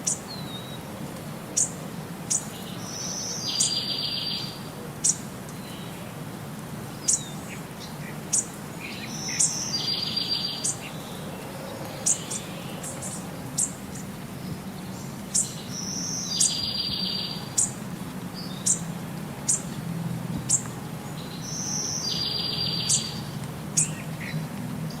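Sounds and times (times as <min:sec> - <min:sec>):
birds chirping: 0:00.0 - 0:25.0
low background noise: 0:00.0 - 0:25.0.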